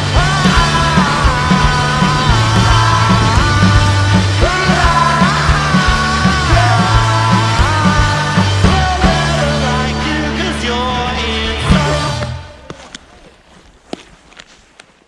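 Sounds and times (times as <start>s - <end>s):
rock music: 0.0s - 12.7s.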